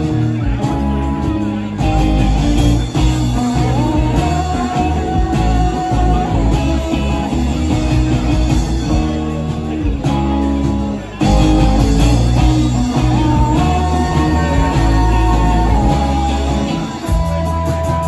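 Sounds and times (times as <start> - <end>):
drums: 0.0 - 18.0
electric guitars: 0.0 - 18.0
person singing: 0.0 - 18.0.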